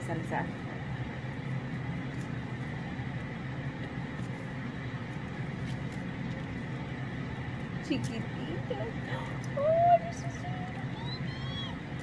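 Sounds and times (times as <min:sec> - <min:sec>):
steady low hum: 0:00.0 - 0:12.0
papery crackles of husk peeling: 0:01.4 - 0:12.0.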